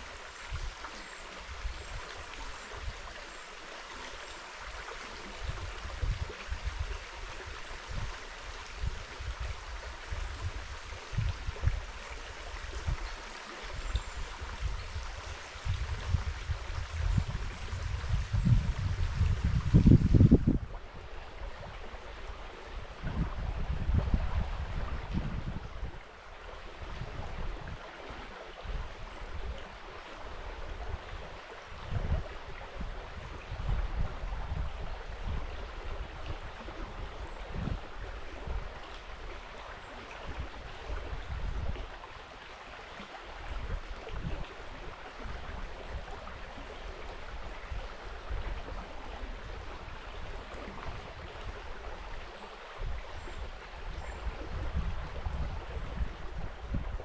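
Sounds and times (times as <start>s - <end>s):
wind rumbling on microphone: 0.0s - 3.3s, 4.2s - 57.0s
river water rushing: 0.0s - 57.0s.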